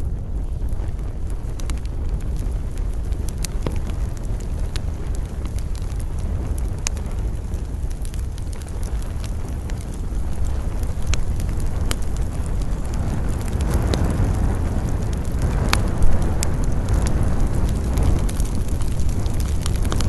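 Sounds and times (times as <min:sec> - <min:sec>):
campfire crackling and popping: 0:00.0 - 0:20.0
low wind rumble: 0:00.0 - 0:20.0.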